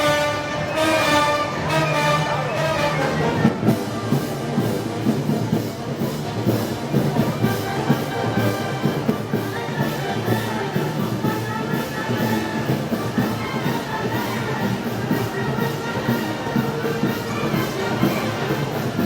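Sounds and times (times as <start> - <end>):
brass band chords: 0.0 - 19.0
steady drum beat: 2.7 - 19.0.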